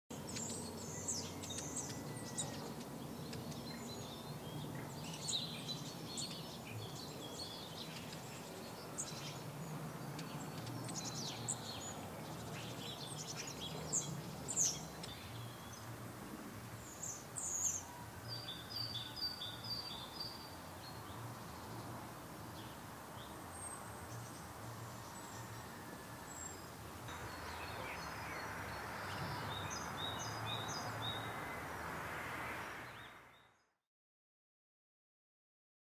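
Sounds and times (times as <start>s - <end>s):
songbirds chirping and whistling: 0.1s - 31.7s.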